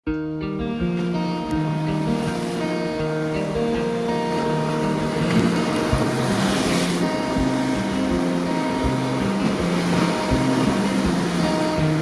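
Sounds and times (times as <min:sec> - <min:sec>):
background music of held notes: 0:00.1 - 0:12.0
sea surf rushing: 0:01.0 - 0:12.0.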